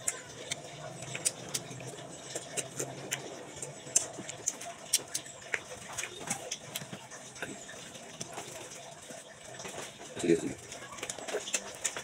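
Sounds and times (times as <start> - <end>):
wet chewing and mouth smacks: 0.0 - 9.2, 10.9 - 12.0.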